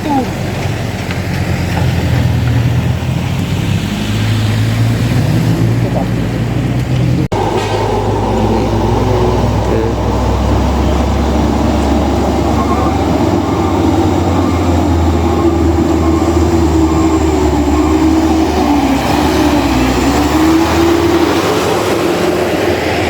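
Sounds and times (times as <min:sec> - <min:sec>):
bus diesel engine rumbling: 0:00.0 - 0:23.0
wavering drivetrain whine: 0:00.0 - 0:23.0.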